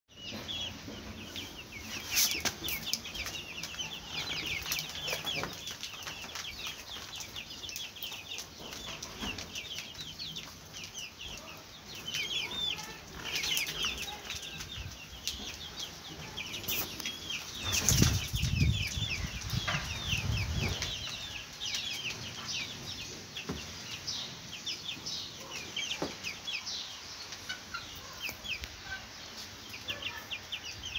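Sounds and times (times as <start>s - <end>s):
chicks peeping: 0.1s - 30.9s.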